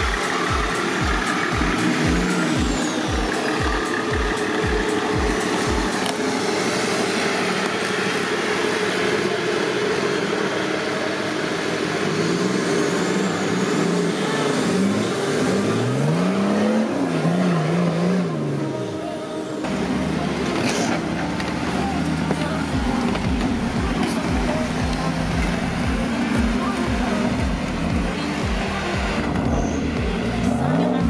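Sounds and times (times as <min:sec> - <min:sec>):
buggy engines revving hard: 0:00.0 - 0:31.0.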